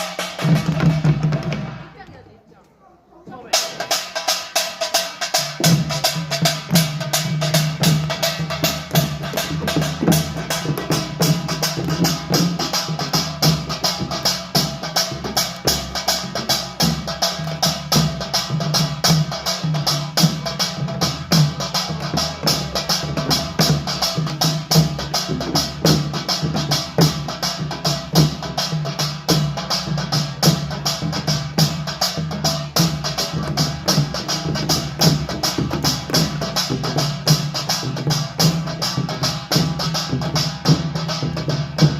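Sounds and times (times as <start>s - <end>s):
drums playing fast beat: 0.0s - 2.0s, 3.3s - 41.9s.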